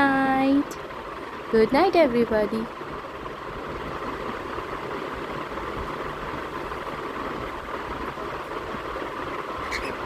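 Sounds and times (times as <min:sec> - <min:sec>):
steady hiss-like hum: 0:00.0 - 0:10.0.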